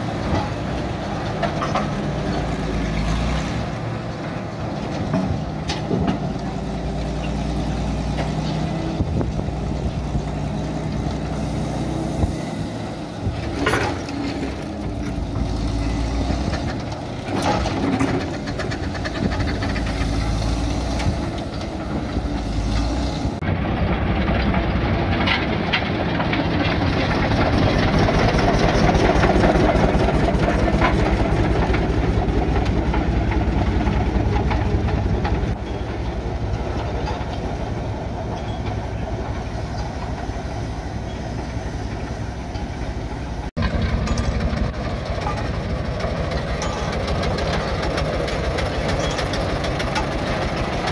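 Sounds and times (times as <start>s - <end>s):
steam engine beating: 3.8s - 50.9s.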